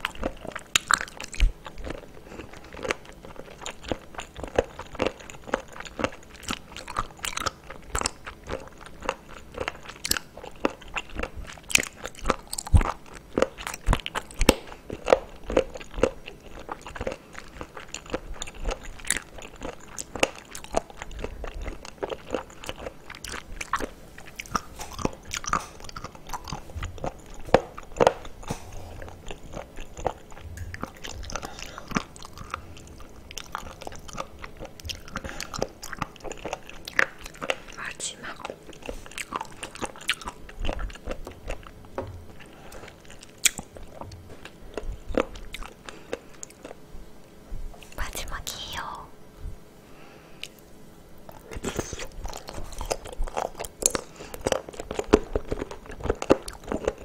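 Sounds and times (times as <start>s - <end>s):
close chewing crunching: 0.0s - 46.8s, 50.4s - 57.0s.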